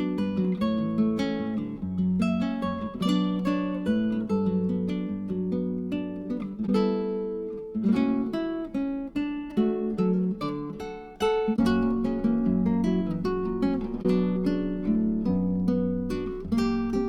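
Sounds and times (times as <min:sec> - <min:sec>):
acoustic guitar plucked and strummed: 0:00.0 - 0:17.0.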